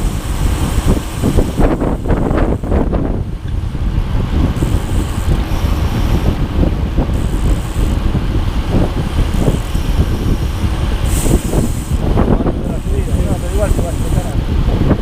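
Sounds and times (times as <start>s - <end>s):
vehicle low rumble: 0.0s - 15.0s
wind buffeting microphone: 0.0s - 15.0s.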